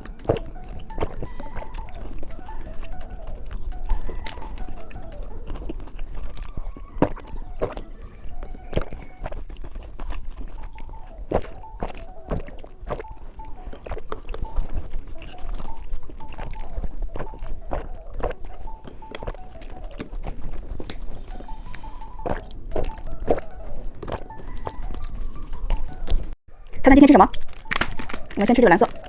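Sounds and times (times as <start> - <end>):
candy crunching while chewing: 0.0 - 29.0
faint background music: 0.0 - 29.0.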